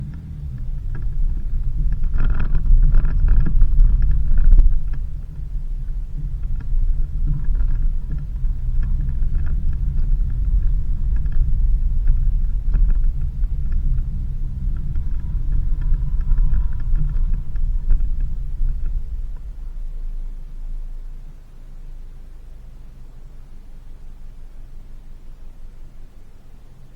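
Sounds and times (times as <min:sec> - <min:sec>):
vehicle driving on dirt road: 0:00.0 - 0:26.9.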